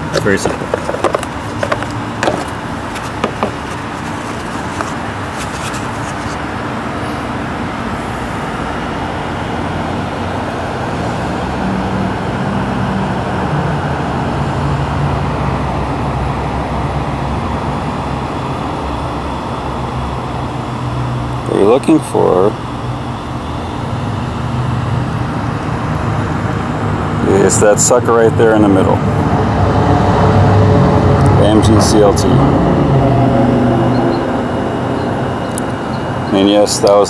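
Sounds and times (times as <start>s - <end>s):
vehicle running hum: 0.0s - 37.0s.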